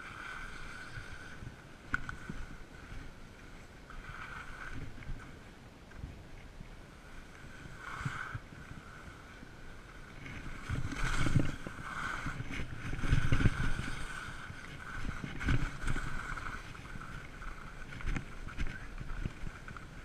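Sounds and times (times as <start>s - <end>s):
skis sliding on snow: 0.0s - 20.0s
wind buffeting microphone: 0.0s - 20.0s.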